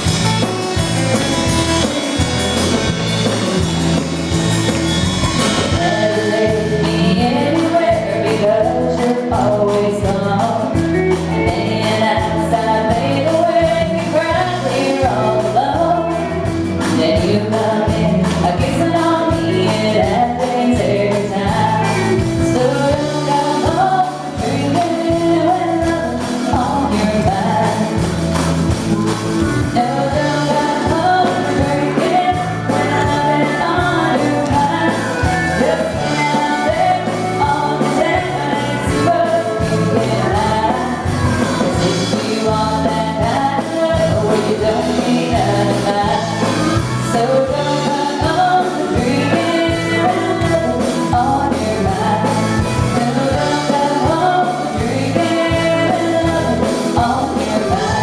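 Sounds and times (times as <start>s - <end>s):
live country band playing: 0.0s - 58.0s
woman singing: 5.5s - 28.2s, 29.6s - 58.0s.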